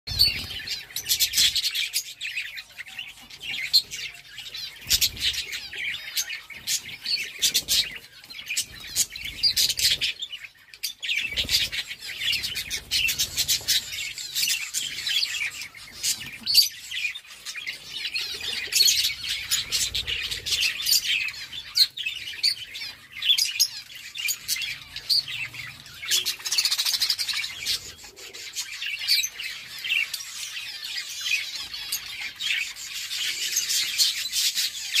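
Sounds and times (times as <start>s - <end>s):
budgerigars chirping and chattering: 0.1s - 35.0s.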